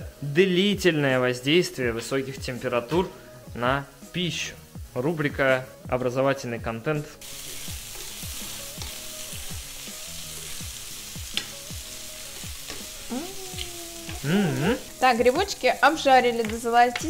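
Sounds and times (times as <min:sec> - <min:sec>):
mushrooms sizzling in oil: 0:00.0 - 0:17.0.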